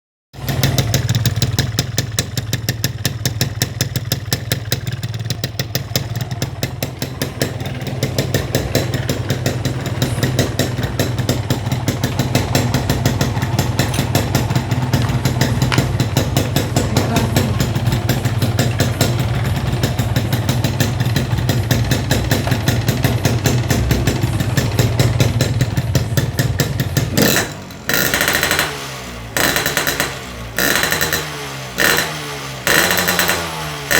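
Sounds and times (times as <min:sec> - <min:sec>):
motorcycle engine idling: 0:00.4 - 0:33.9.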